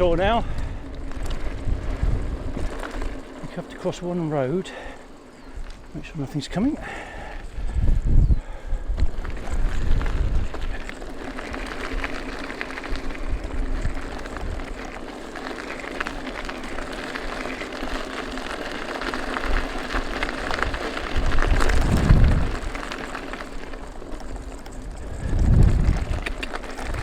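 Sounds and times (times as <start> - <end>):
wind buffeting microphone: 0.0 - 3.4, 5.0 - 27.0
bike tyres crackling over track: 0.0 - 27.0.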